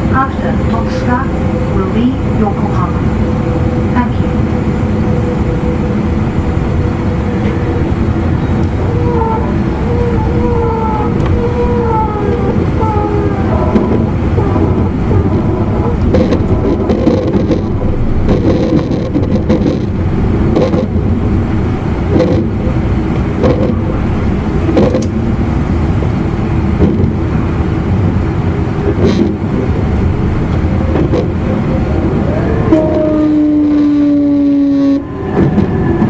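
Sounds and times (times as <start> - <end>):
steady tone: 0.0 - 27.2, 27.9 - 36.0
train wheels rumbling on rail: 0.0 - 36.0.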